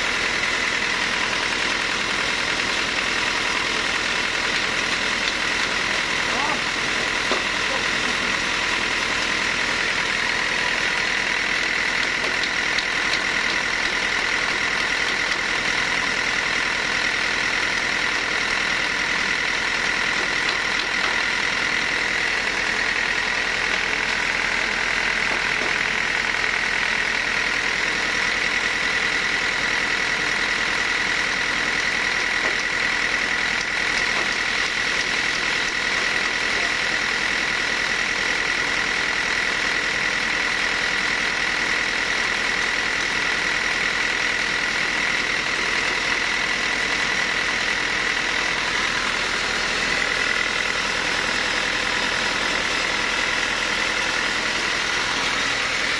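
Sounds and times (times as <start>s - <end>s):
sawmill machinery droning: 0.0s - 55.9s.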